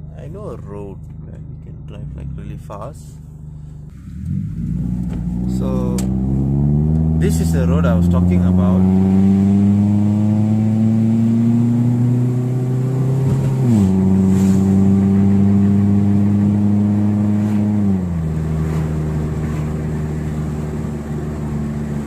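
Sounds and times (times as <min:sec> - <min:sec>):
car engine accelerating through gears: 0:03.9 - 0:22.0.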